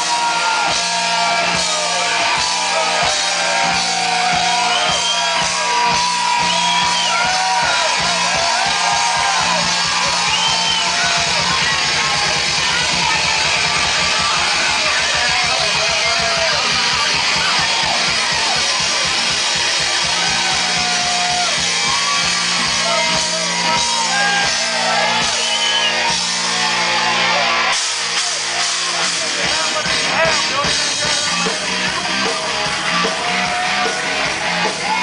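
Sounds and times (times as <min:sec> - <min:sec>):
fast dense drumming: 0:00.0 - 0:26.7, 0:27.8 - 0:35.0
bass guitar: 0:00.0 - 0:35.0
distorted electric guitars: 0:00.0 - 0:35.0.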